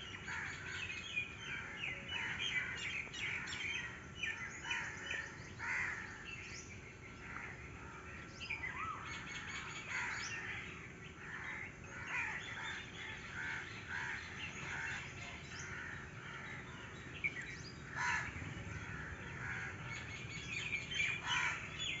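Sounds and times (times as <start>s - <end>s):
birds chirping chorus: 0.0s - 22.0s.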